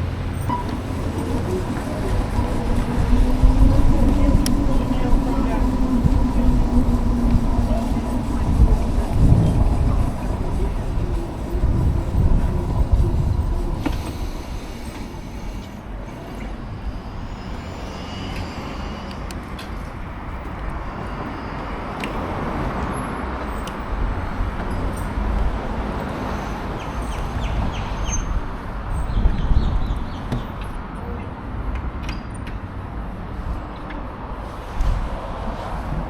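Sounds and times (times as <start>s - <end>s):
wind rush: 0.0s - 31.7s
road noise from motorcycle: 0.0s - 36.0s.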